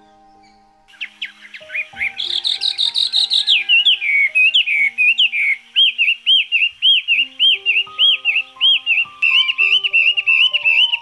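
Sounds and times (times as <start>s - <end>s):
bird singing varied song: 0.0s - 11.0s.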